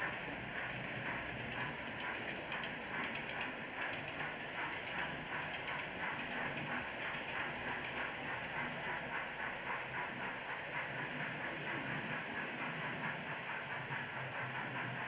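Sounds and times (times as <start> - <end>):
model train running whirr: 0.0 - 15.0
wheels clicking over rail joints: 0.0 - 15.0.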